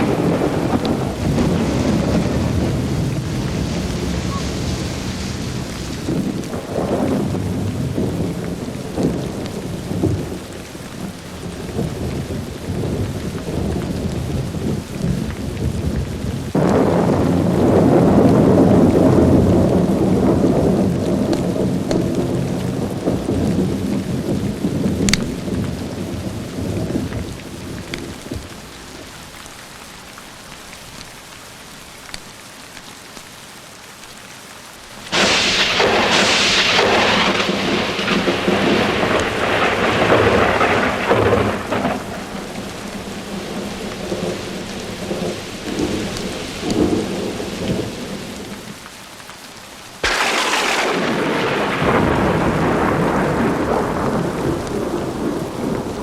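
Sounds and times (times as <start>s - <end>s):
sharp thunderclap: 0.0s - 10.4s, 11.4s - 28.4s, 35.1s - 48.6s, 50.0s - 56.0s
thunder rumbling: 0.0s - 29.1s, 35.0s - 48.8s, 50.0s - 56.0s
steady rain: 0.0s - 56.0s.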